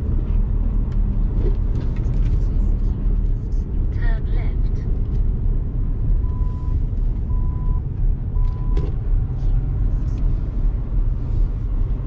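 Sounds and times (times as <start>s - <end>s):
lorry engine rumble and road noise: 0.0s - 12.0s.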